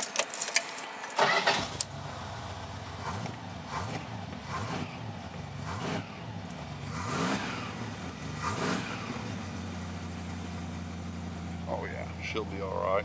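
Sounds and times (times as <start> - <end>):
pickup truck engine revving: 1.2 - 12.3.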